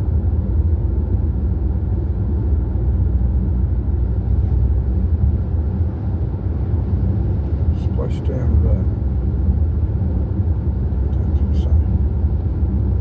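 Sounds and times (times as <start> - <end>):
road rumble: 0.0 - 13.0
wind: 0.0 - 13.0.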